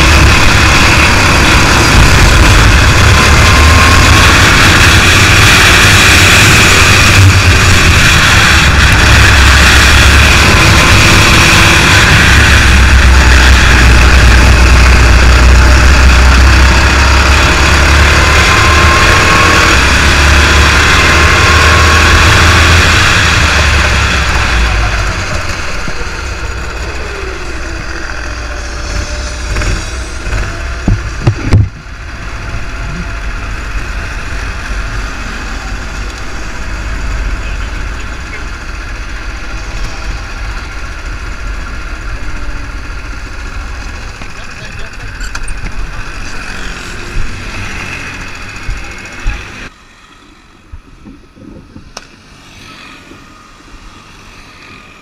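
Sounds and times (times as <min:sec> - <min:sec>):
racing kart engine: 0:00.0 - 0:55.0.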